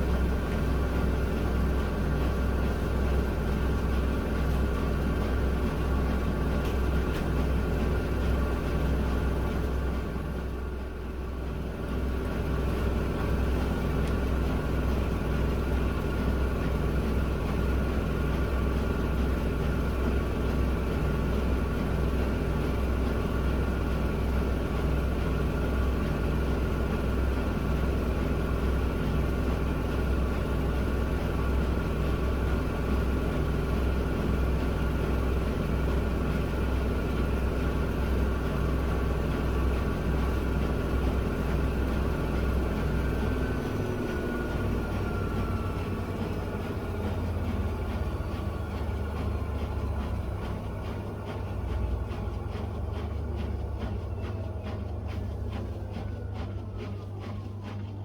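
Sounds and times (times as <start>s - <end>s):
washing machine drum spinning: 0.0s - 58.0s.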